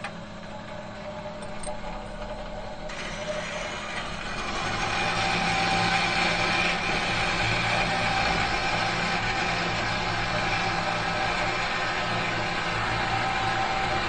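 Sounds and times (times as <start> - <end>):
metal machine humming and whirring: 0.0 - 14.0.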